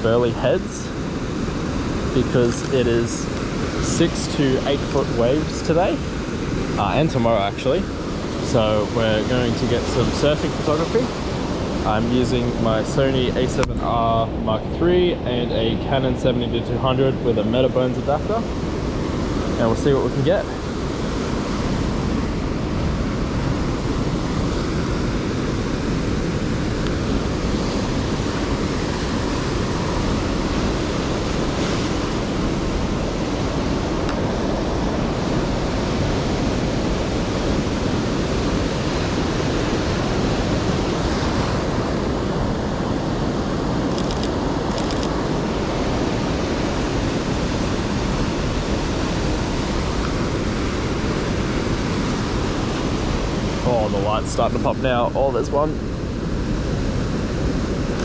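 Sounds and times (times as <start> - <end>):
ocean surf roaring: 0.0 - 58.0.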